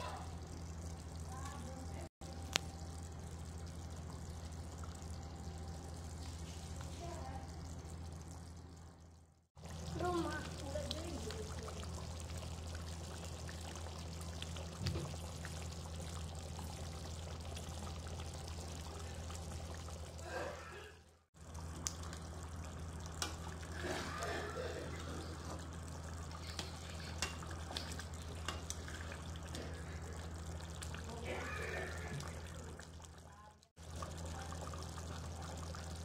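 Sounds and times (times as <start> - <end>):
curry simmering with bubbling pops: 0.0 - 20.3, 21.3 - 36.0
steady low hum: 0.0 - 20.8, 21.4 - 36.0.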